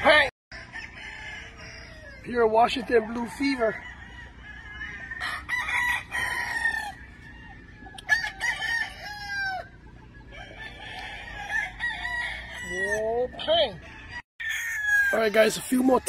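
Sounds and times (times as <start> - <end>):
roosters crowing: 0.0 - 16.0.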